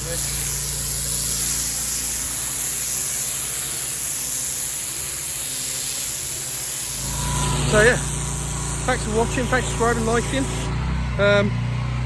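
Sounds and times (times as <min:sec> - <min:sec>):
pressure washer spray hissing: 0:00.0 - 0:10.7
machine humming: 0:00.0 - 0:12.0.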